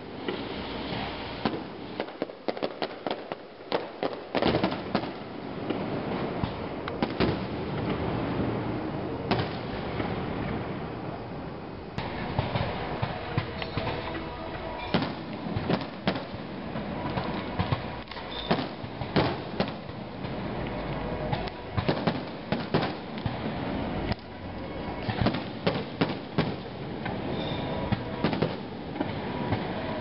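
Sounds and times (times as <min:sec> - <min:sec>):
fireworks bangs: 0:00.0 - 0:11.2, 0:12.0 - 0:24.2, 0:25.0 - 0:30.0.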